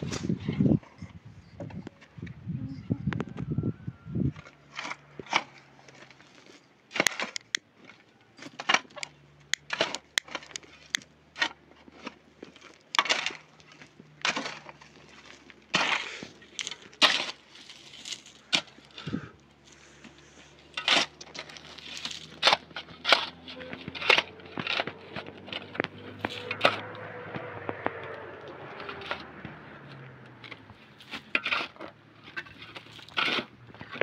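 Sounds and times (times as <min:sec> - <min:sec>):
hand tool digging stony earth: 0:00.0 - 0:02.0, 0:04.3 - 0:34.0.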